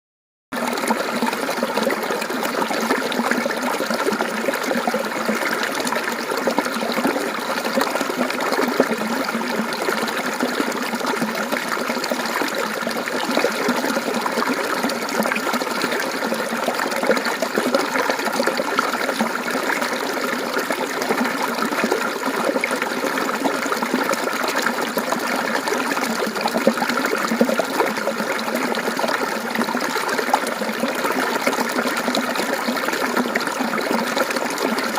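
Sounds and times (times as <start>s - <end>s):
stream babbling over stones: 0.6s - 34.9s.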